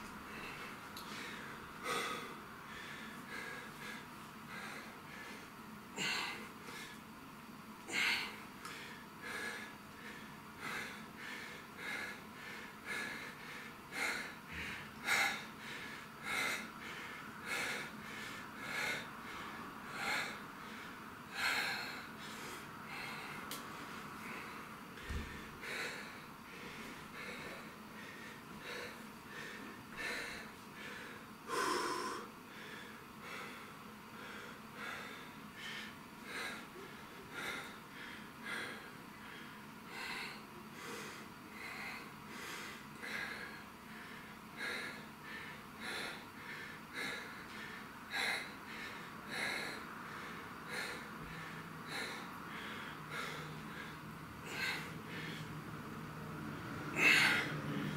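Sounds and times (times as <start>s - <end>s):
man breathing sharply through nose: 7.9s - 57.9s.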